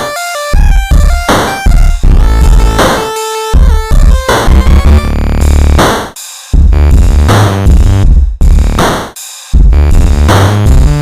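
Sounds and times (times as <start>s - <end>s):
dubstep music: 0.0s - 11.0s.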